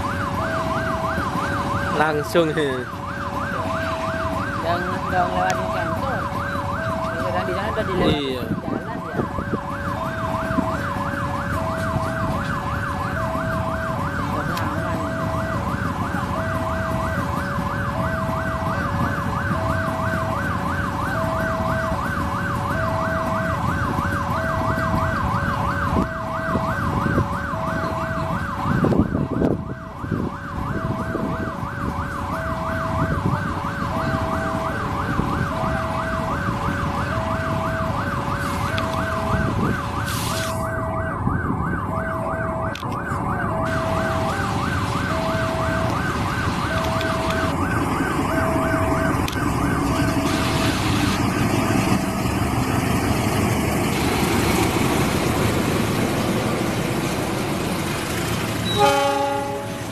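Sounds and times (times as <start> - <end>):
diesel locomotive rumble: 0.0 - 59.9
level crossing warning alarm: 0.0 - 59.9.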